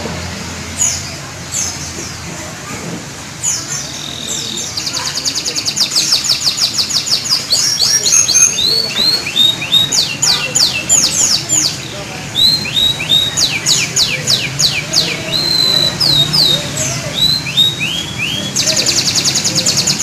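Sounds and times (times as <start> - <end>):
canary singing: 3.4 - 20.0.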